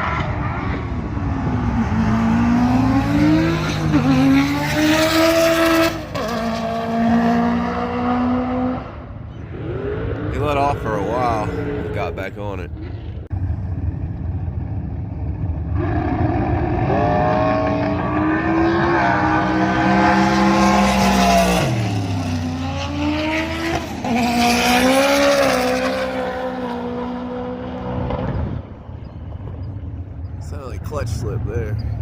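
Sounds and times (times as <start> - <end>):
drag racing car accelerating: 0.0 - 32.0.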